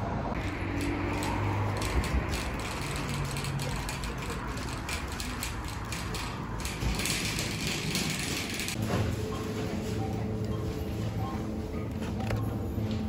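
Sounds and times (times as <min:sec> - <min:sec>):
shopping trolley rattling: 0:00.4 - 0:13.0.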